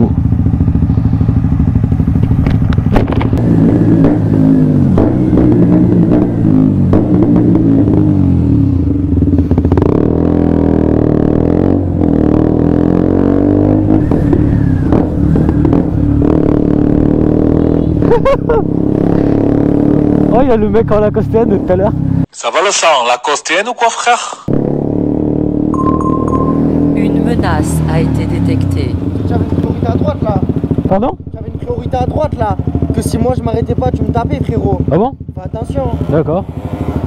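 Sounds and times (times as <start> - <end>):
motorcycle engine revving: 0.0 - 22.3, 24.5 - 37.0.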